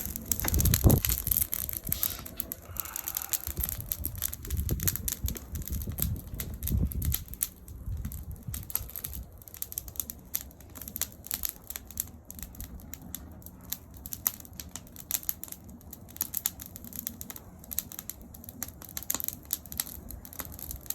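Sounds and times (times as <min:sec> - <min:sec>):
low fire rumble: 0:00.0 - 0:20.9
wood fire crackling: 0:00.0 - 0:20.9.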